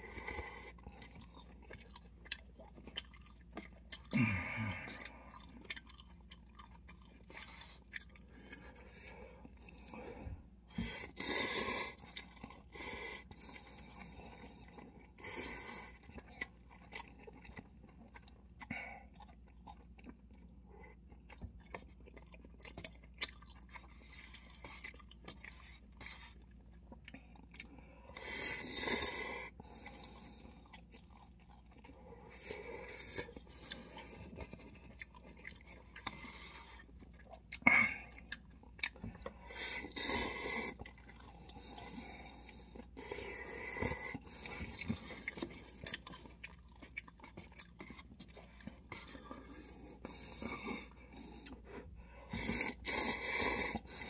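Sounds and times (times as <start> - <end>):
wet chewing and mouth clicks: 0.0 - 54.0.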